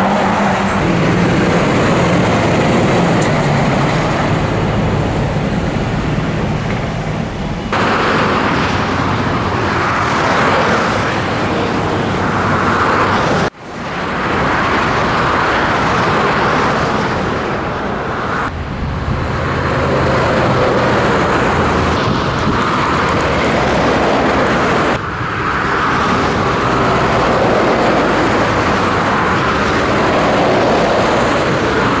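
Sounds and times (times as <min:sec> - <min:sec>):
truck engine hum: 0:00.0 - 0:32.0.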